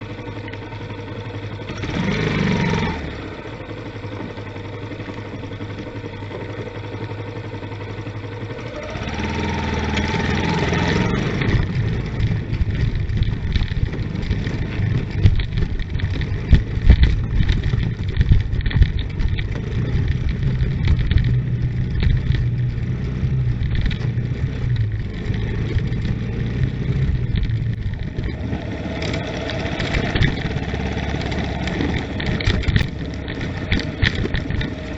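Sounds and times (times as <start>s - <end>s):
vehicle engine idling and revving: 0.0s - 34.9s.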